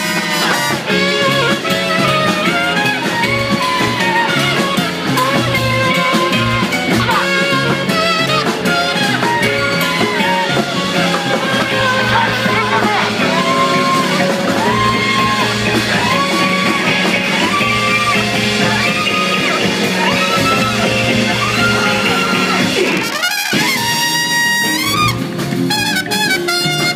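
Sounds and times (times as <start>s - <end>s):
live band playing: 0.0s - 26.9s
saxophone riff: 0.0s - 26.9s.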